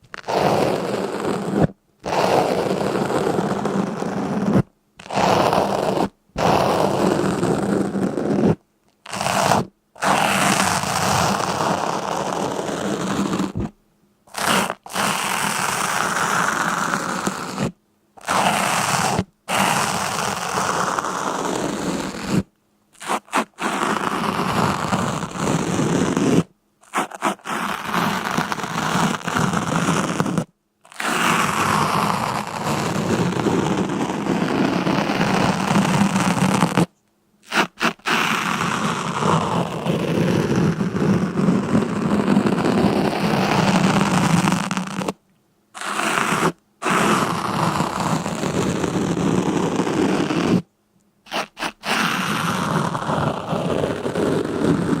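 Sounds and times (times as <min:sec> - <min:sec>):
short scraping crunching noises: 0:00.0 - 0:45.2, 0:45.8 - 0:49.4.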